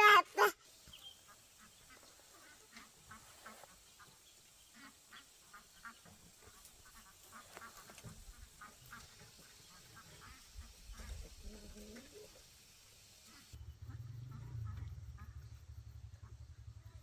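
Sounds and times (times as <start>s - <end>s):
farm birds calling: 0.0s - 16.5s
low background hiss: 0.0s - 17.0s.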